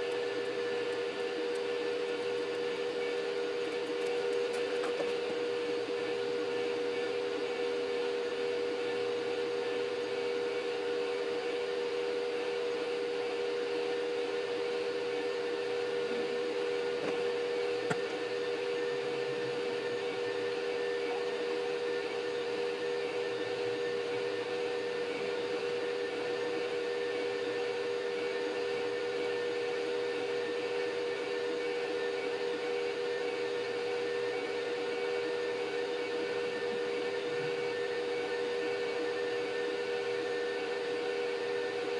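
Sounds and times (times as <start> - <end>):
three d printer whirring hum: 0.0 - 41.9.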